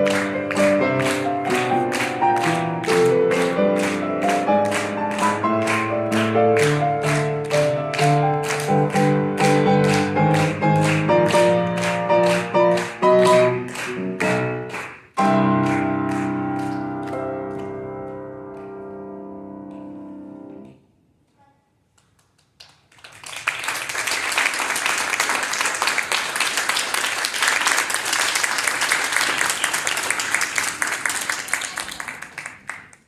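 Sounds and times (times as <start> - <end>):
applause: 0.0 - 17.8, 21.9 - 33.0.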